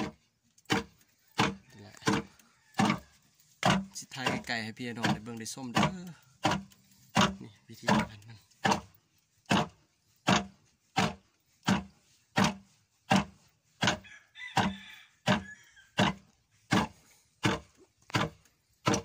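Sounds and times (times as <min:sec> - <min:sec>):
heavy wooden knocks of rice pounder: 0:00.0 - 0:14.0, 0:14.6 - 0:19.0.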